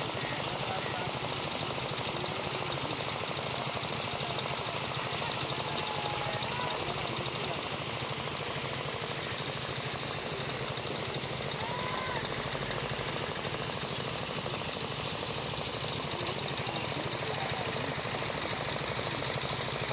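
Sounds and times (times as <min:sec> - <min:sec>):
small engine running: 0:00.0 - 0:19.9.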